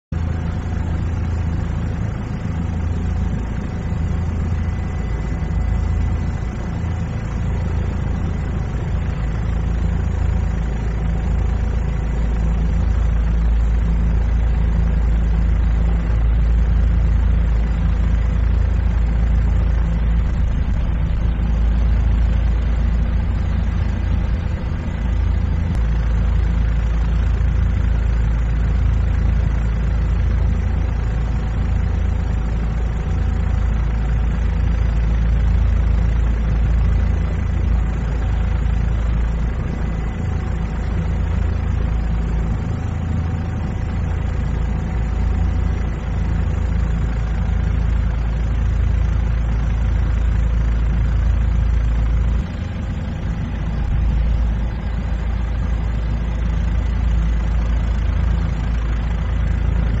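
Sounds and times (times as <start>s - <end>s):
helicopter engine and rotors droning: 0.1s - 60.0s
faint steady whine: 0.2s - 60.0s.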